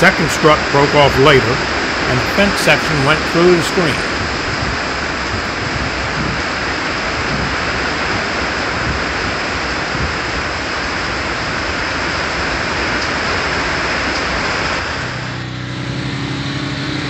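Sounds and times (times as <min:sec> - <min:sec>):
heavy rain: 0:00.0 - 0:17.0
low wind rumble: 0:00.0 - 0:17.0.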